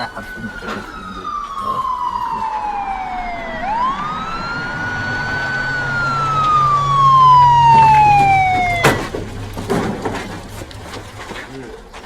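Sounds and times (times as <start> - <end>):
police siren wailing: 0.0 - 11.0
low engine rumble: 0.0 - 12.0.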